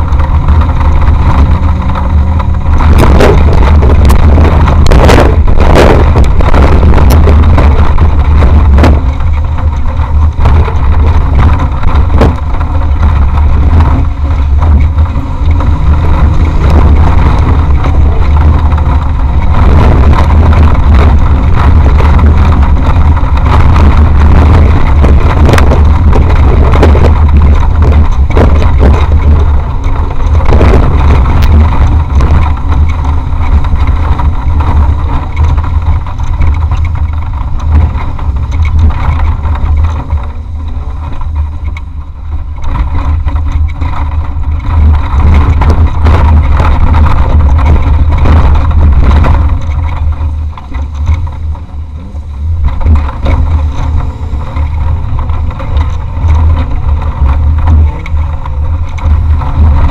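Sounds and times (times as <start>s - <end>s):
knocks and rattles from bumpy ground: 0.0s - 59.9s
off-road vehicle engine drone: 0.0s - 59.9s.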